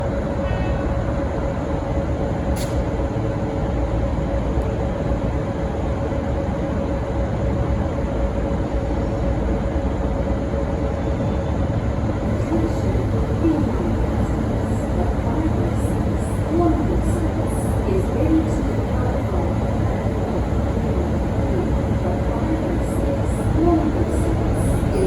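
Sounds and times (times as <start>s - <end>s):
diesel locomotive running: 0.0s - 25.0s.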